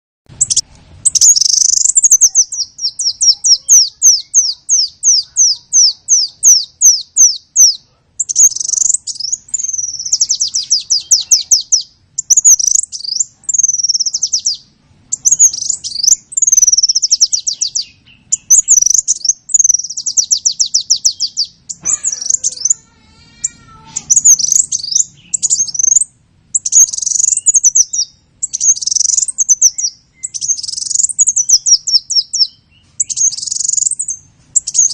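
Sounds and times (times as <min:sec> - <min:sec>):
songbird singing trills: 0:00.3 - 0:34.9.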